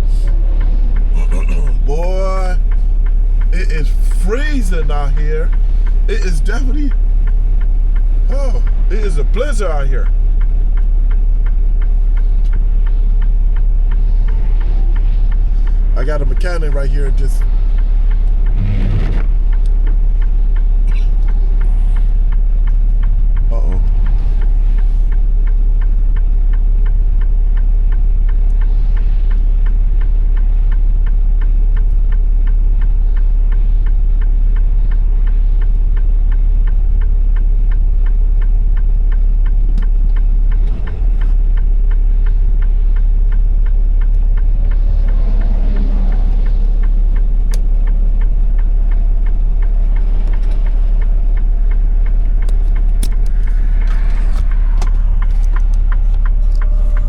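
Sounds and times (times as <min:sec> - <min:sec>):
diesel truck engine idling: 0:00.0 - 0:18.7, 0:29.5 - 0:57.0.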